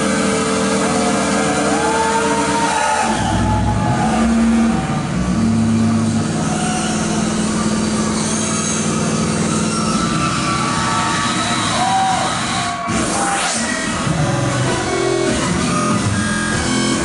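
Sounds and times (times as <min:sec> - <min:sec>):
droning electronic bass: 0:00.0 - 0:17.0.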